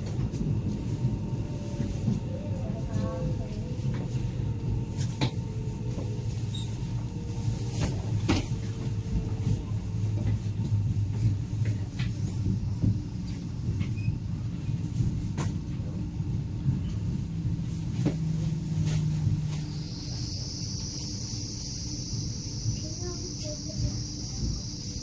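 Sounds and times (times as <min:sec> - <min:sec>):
train rumble and hum: 0:00.0 - 0:25.0.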